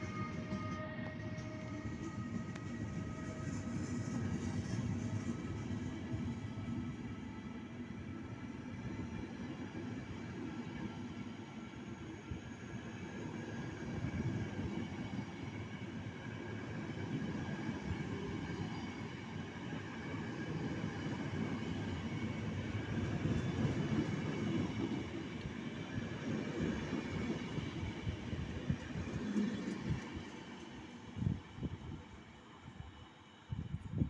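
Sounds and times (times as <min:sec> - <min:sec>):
train rolling rumble: 0:00.0 - 0:34.0.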